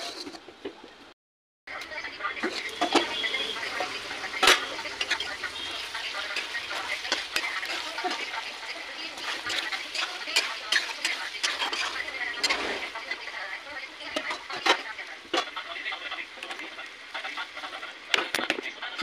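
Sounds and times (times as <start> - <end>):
curry sizzling in pan: 2.0 - 19.0.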